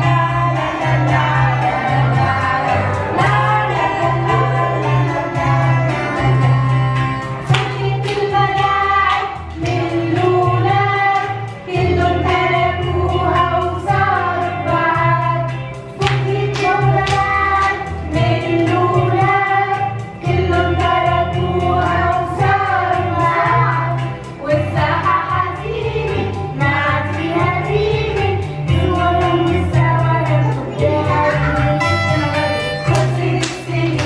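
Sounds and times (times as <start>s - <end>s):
children singing: 0.0s - 6.8s, 7.6s - 34.0s
backing track with bass line: 0.0s - 34.0s
women singing: 0.0s - 34.0s.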